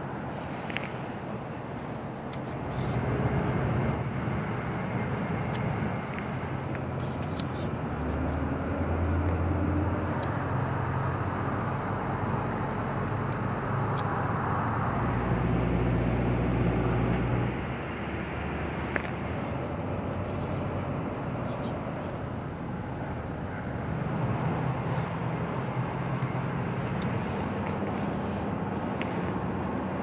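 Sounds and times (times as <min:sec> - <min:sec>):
constant rushing noise: 0:00.0 - 0:08.8, 0:09.8 - 0:30.0
vehicle engines humming: 0:00.0 - 0:30.0.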